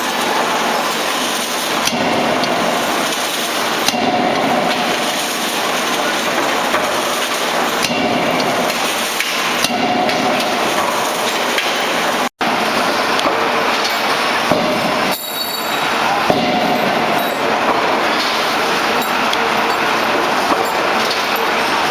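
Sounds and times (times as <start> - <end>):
continuous clattering noise: 0.0 - 21.9
forging hammer blows: 0.0 - 21.9.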